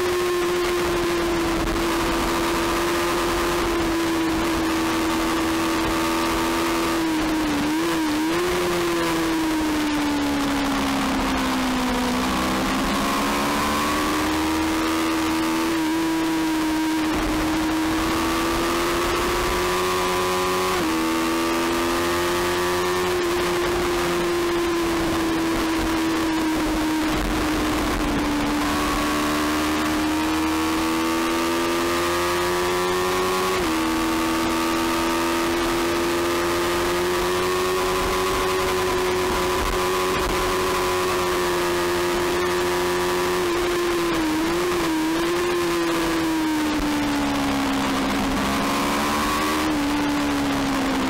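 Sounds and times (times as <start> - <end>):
motorcycle engine at high revs: 0.0 - 51.0.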